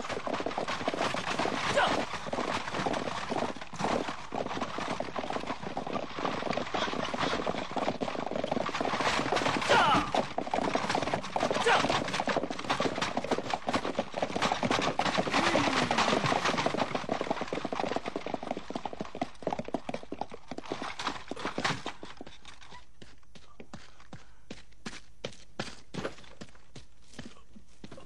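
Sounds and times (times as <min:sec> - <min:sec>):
horse hooves clip-clopping on dirt: 0:00.0 - 0:28.0.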